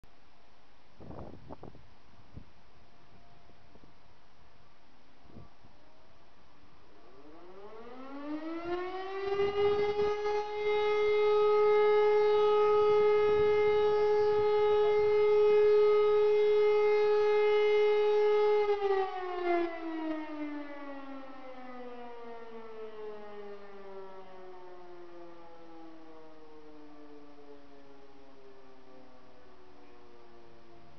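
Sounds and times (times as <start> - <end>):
motor sirens howling: 6.0 - 30.9.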